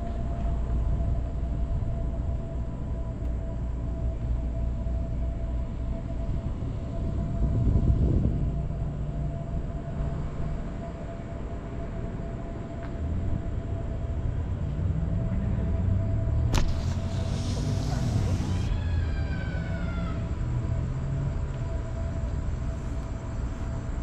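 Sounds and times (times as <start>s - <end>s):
car engine low rumble: 0.0s - 24.0s
road noise: 0.0s - 24.0s.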